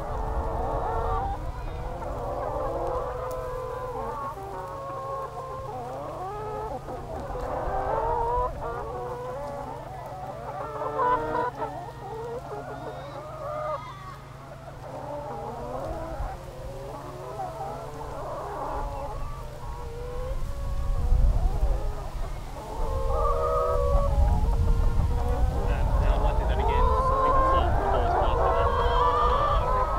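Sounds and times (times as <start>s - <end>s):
hens clucking and calling: 0.0s - 29.9s.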